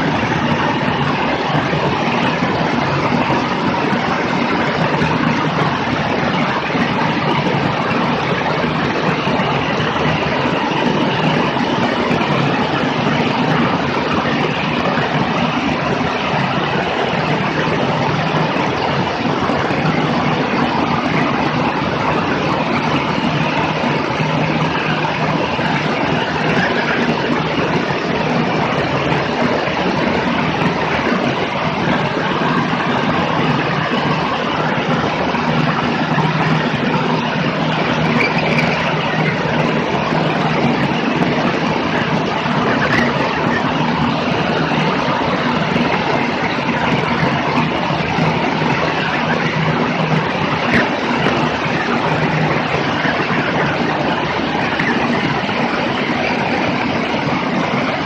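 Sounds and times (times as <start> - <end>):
light airplane engine drone: 0.0 - 58.0
rush of airflow: 0.0 - 58.0.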